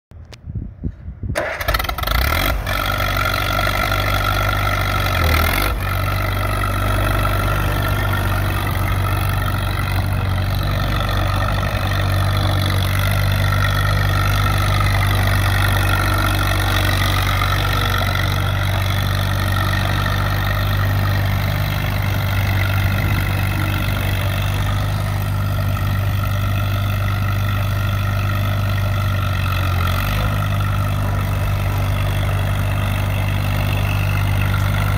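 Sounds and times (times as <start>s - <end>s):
tractor engine running: 1.0s - 34.9s.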